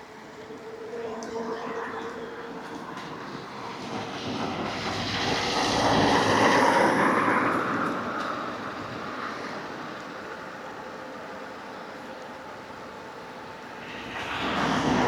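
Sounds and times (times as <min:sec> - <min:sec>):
road and wind noise: 0:02.2 - 0:15.0.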